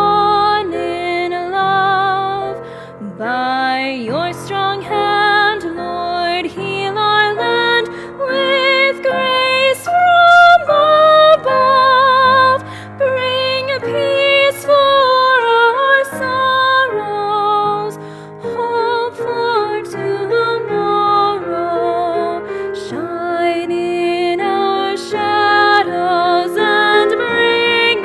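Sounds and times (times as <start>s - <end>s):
woman singing a hymn: 0.0s - 28.0s.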